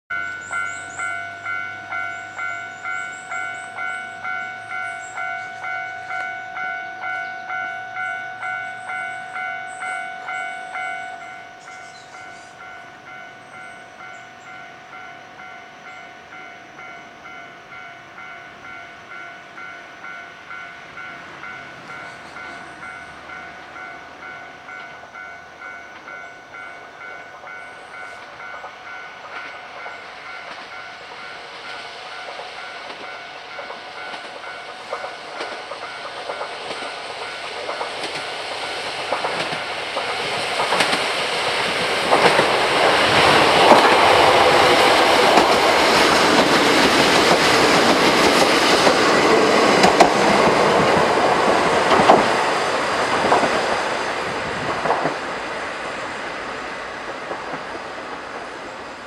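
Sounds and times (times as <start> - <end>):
approaching train rumble: 0.1 - 59.0
level crossing warning bell: 0.1 - 59.0.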